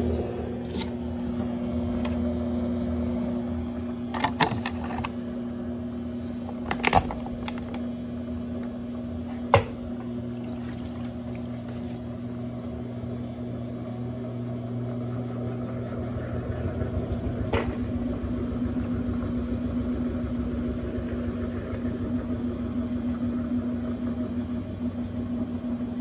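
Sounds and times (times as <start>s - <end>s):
washing machine humming: 0.0s - 26.0s
washing machine spinning up: 0.0s - 26.0s.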